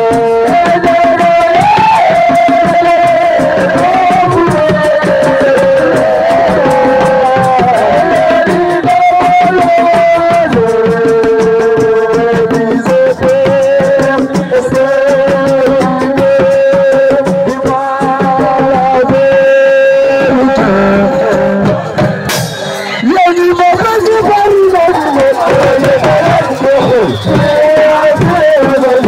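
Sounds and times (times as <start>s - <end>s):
hand drums fast rhythm: 0.0s - 29.0s.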